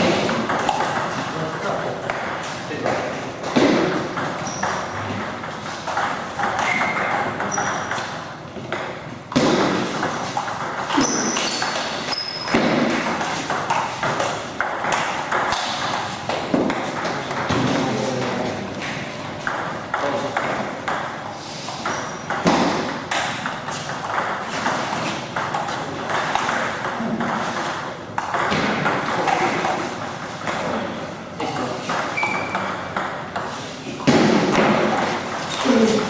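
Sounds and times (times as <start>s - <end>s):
table tennis ball hits: 0.0s - 36.0s.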